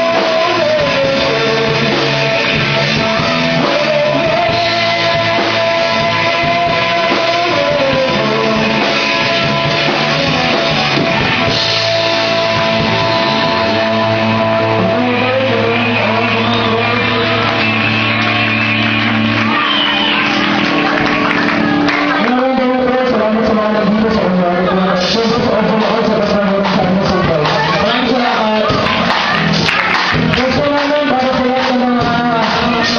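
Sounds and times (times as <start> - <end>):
electric guitar: 0.0 - 32.9
person singing: 0.0 - 32.9.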